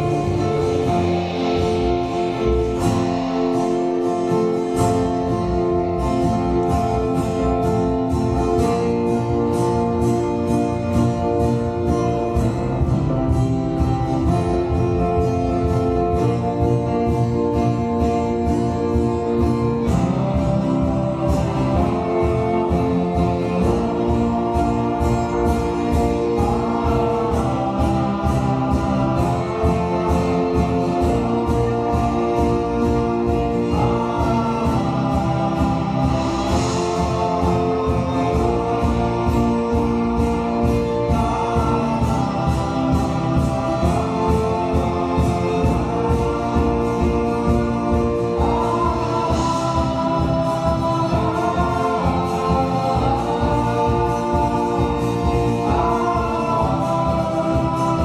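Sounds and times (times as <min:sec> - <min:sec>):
folk-rock band playing: 0:00.0 - 0:58.0
person singing: 0:00.0 - 0:58.0.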